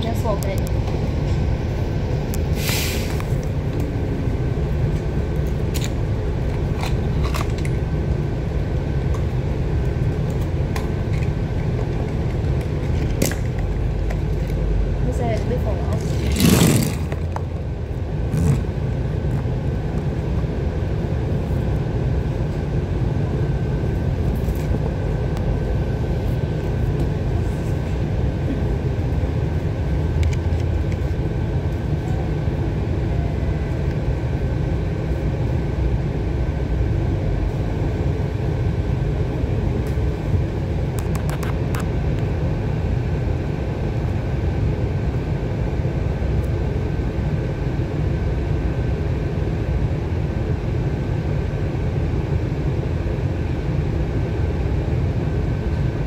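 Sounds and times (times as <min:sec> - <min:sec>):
bus interior low rumble: 0:00.0 - 0:56.0
faint steady hum: 0:00.0 - 0:56.0.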